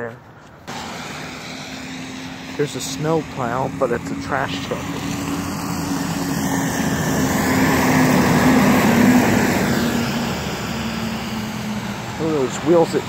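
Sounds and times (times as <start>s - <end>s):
garbage truck diesel engine: 0.7s - 13.0s.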